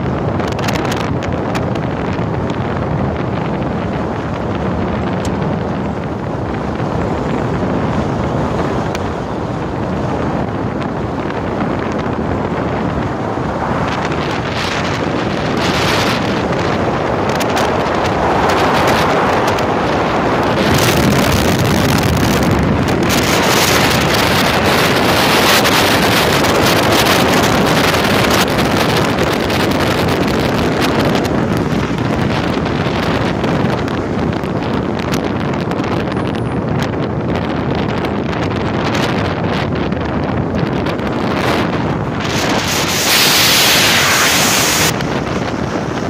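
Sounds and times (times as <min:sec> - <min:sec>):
car driving: 0:00.0 - 0:46.0
wind buffeting microphone: 0:00.0 - 0:46.0.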